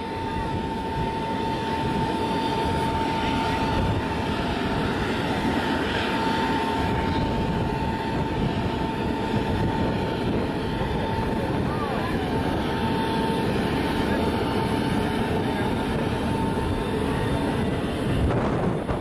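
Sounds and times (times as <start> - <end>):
engine running with whine: 0.0 - 19.0.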